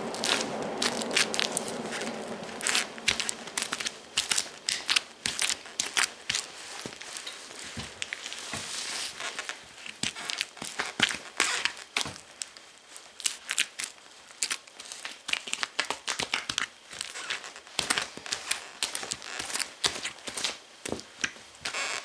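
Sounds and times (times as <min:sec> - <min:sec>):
boots stomping on plastic wrapping: 0:00.0 - 0:12.5, 0:15.2 - 0:21.9
plastic film crinkling: 0:00.0 - 0:22.0.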